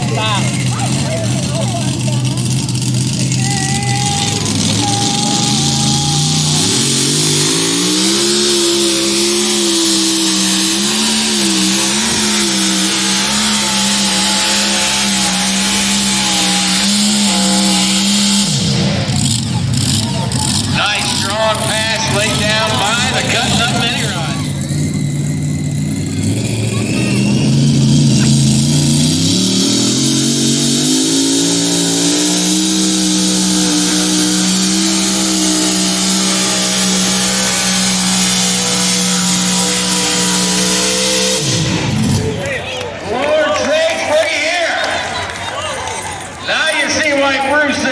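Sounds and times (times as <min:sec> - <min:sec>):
high-revving tractor engine: 0:00.0 - 0:47.9.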